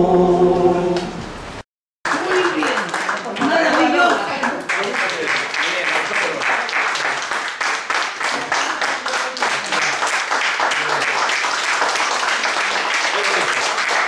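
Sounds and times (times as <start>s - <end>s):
audience applauding: 2.1s - 14.0s.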